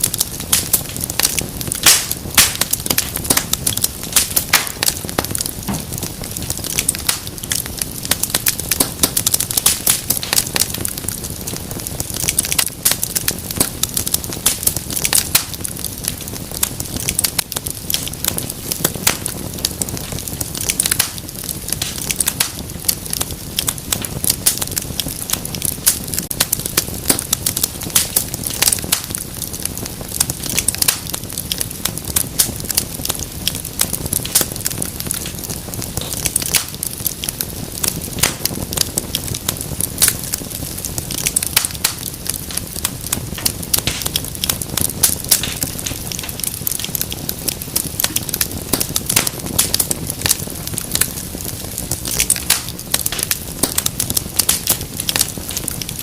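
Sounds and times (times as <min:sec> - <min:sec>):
low rush of flame: 0:00.0 - 0:56.0
wood fire crackling and popping: 0:00.0 - 0:56.0.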